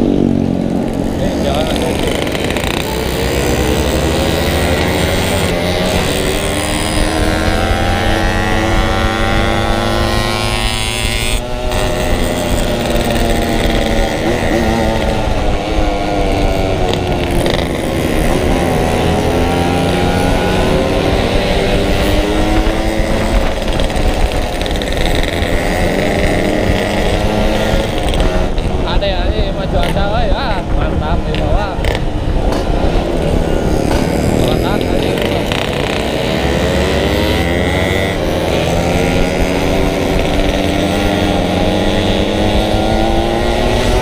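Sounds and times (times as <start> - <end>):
two-stroke motorcycle engine revving: 0.0 - 44.0.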